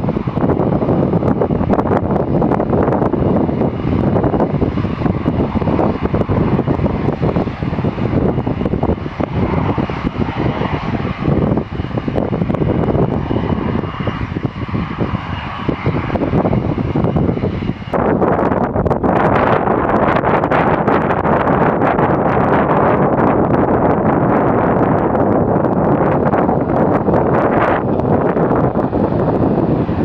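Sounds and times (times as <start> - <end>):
jet engines rumbling at takeoff: 0.0 - 30.0
wind buffeting microphone: 0.0 - 30.0.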